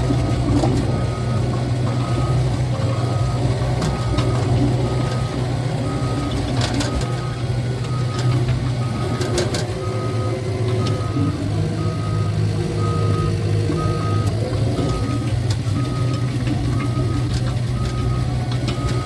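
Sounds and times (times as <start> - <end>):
diesel engine drone: 0.0 - 19.0
reverse alarm beeping: 0.0 - 19.0.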